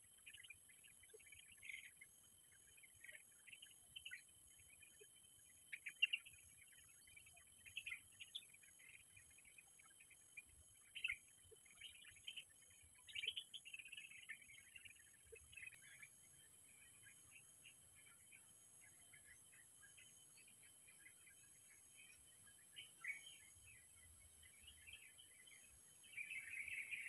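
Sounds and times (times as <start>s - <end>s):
bird chirps: 0.0s - 27.0s.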